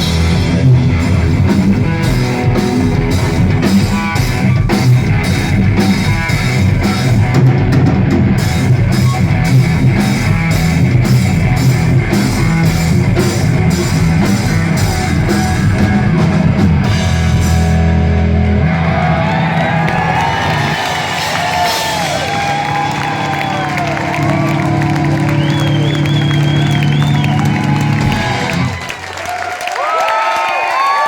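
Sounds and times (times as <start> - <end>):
distorted electric guitar: 0.0 - 28.9
pounding drum kit: 0.0 - 29.5.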